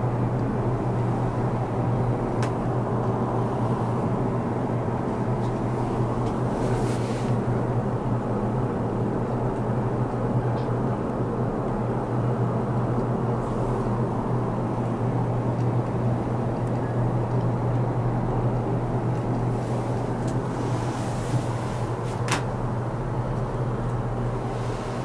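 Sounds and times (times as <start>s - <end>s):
mechanical hum and rumble: 0.0s - 25.0s.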